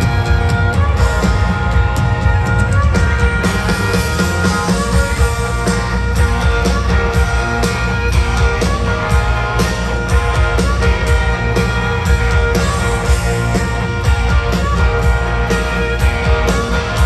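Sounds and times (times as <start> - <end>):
live country rock band: 0.0 - 17.0
steady drum beat: 0.0 - 17.0.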